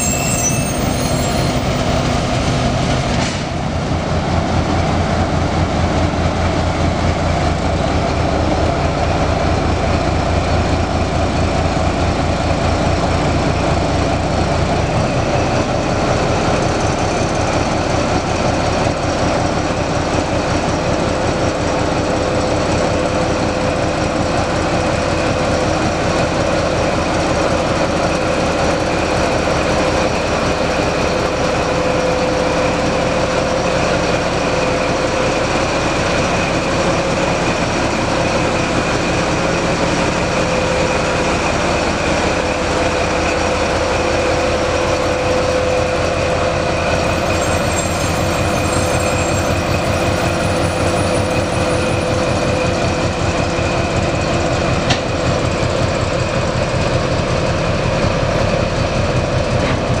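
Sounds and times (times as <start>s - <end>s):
diesel locomotive running: 0.0s - 60.0s.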